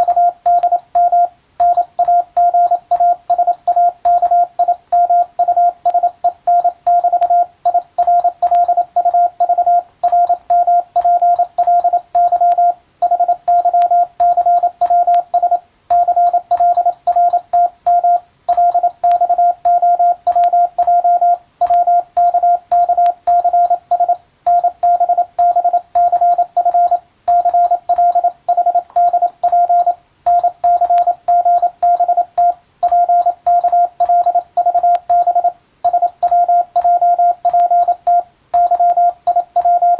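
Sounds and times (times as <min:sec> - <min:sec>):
faint keying clicks: 0:00.0 - 0:39.9
morse code beeps: 0:00.0 - 0:39.9.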